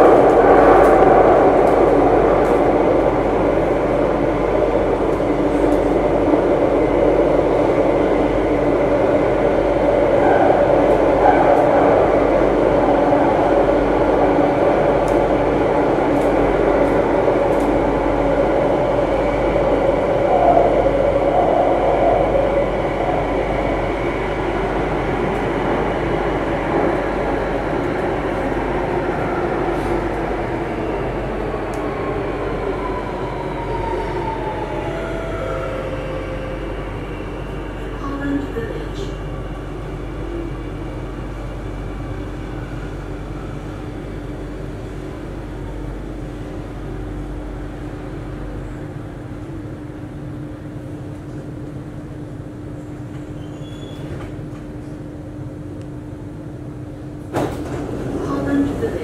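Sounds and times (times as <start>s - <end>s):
train wheels rumbling: 0.0s - 48.2s.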